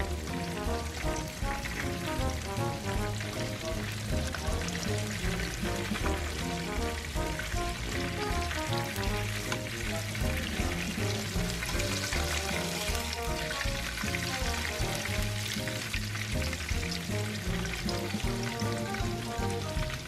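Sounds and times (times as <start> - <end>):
light background music: 0.0 - 20.0
shrimp sizzling in hot oil: 0.0 - 20.0.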